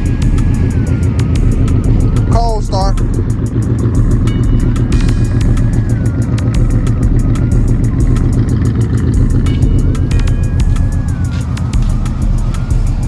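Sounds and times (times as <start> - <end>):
car engine droning: 0.0 - 13.0
faint music playing: 0.0 - 13.0.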